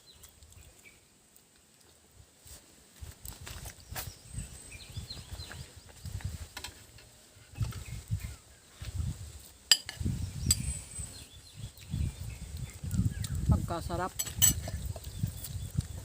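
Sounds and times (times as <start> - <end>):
muffled chewing noises: 0.0 - 9.6, 10.6 - 13.7, 14.3 - 16.0.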